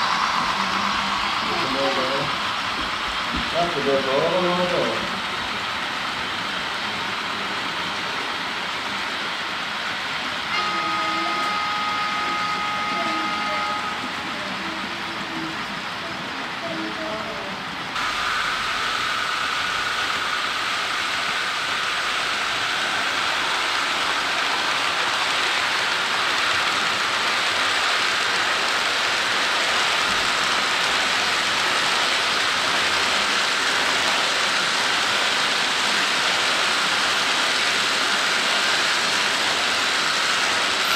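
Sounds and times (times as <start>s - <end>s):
model train wheels hissing on rail: 0.0s - 40.9s.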